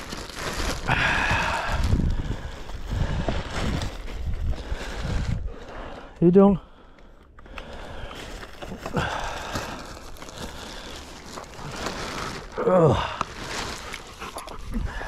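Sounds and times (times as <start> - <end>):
rustling and handling noise: 0.0 - 15.0.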